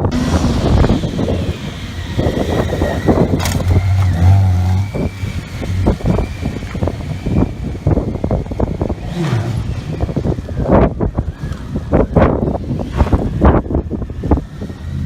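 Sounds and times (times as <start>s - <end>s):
motorcycle engine at low revs: 0.0s - 15.0s
wind gusting on microphone: 0.0s - 15.0s.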